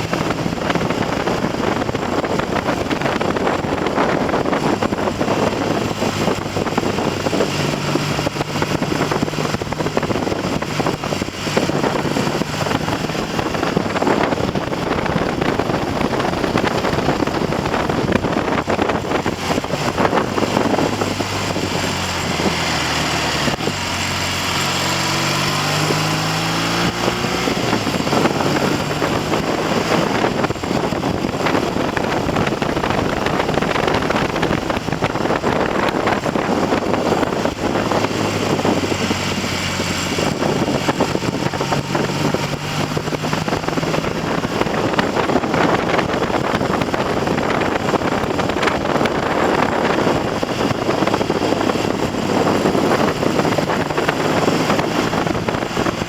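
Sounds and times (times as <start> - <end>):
motorcycle engine running: 0.0 - 56.0
wind buffeting on microphone: 0.0 - 56.0.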